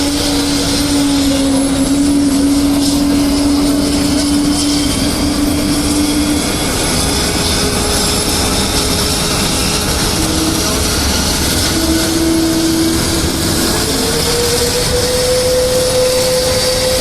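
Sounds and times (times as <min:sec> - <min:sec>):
aircraft engine running: 0:00.0 - 0:17.0.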